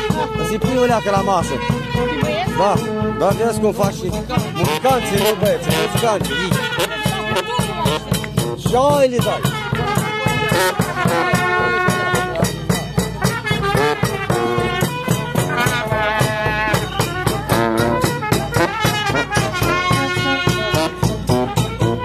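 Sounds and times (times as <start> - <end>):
bass drum beat: 0.0 - 22.0
bass horn: 0.0 - 22.0
trumpets: 0.0 - 22.0.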